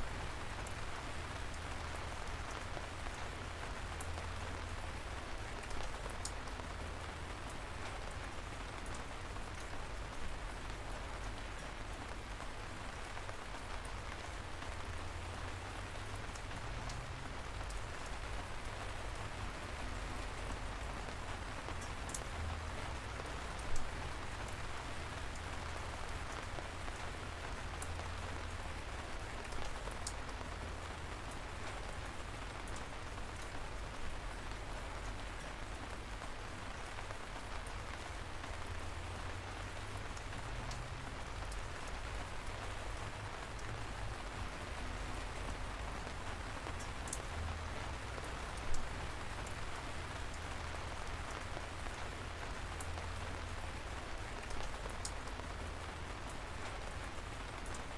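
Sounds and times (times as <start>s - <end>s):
light rain pattering: 0.0s - 57.9s.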